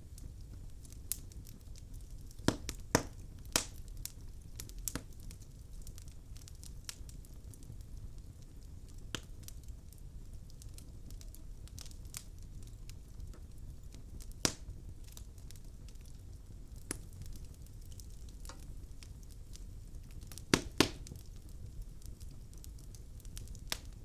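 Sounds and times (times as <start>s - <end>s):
fire crackling and popping: 0.0s - 24.0s
low fire rumble: 0.0s - 24.0s.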